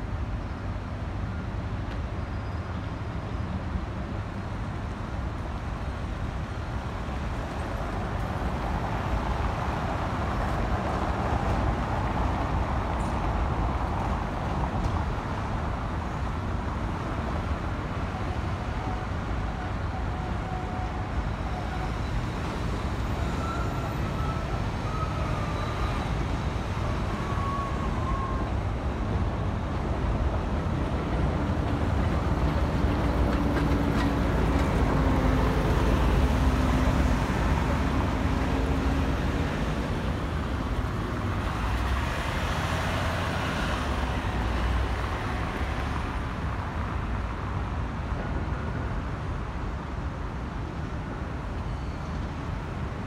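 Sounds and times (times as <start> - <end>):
city traffic rumble: 0.0 - 53.0.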